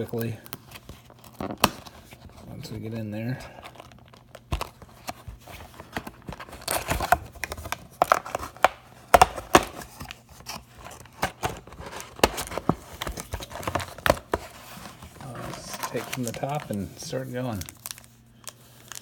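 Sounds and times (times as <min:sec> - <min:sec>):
plastic and foil wrapping crinkling: 0:00.0 - 0:19.0.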